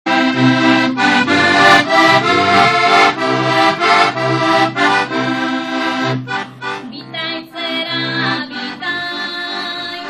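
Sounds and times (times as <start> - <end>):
button accordion playing folk tune: 0.1 - 10.0.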